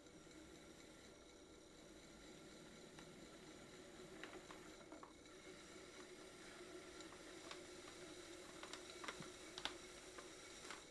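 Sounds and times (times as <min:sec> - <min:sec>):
potter's wheel humming: 0:00.0 - 0:10.9.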